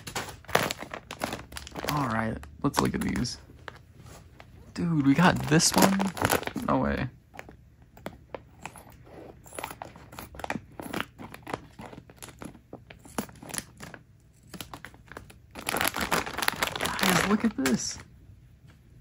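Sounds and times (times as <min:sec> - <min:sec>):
plastic bag crinkling: 0:00.0 - 0:07.1, 0:09.6 - 0:18.0.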